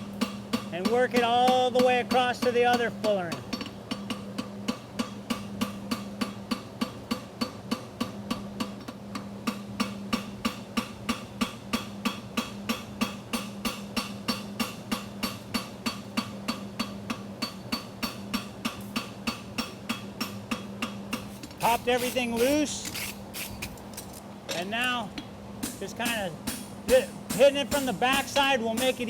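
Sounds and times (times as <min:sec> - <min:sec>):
hammer striking hot steel: 0:00.1 - 0:29.0.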